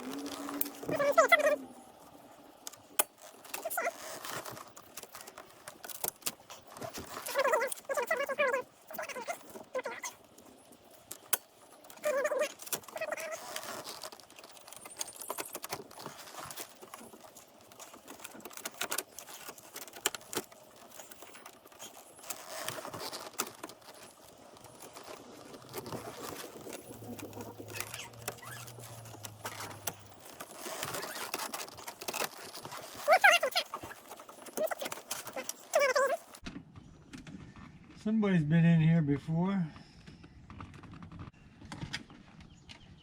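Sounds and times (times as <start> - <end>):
hand tools and plastic parts rattling: 0.0 - 37.8.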